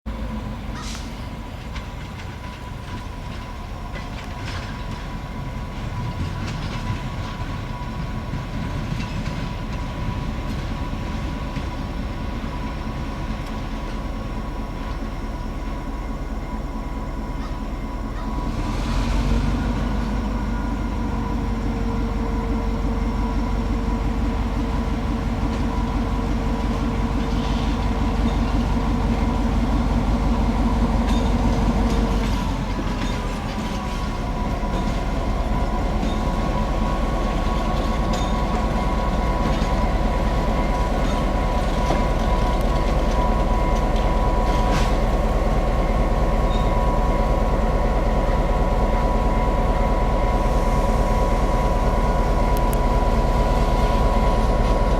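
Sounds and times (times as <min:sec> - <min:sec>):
diesel locomotive rumbling: 0:00.0 - 0:54.9.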